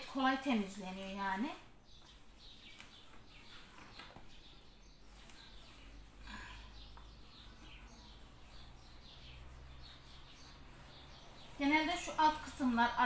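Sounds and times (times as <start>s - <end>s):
faint bird chirps: 1.8s - 12.7s.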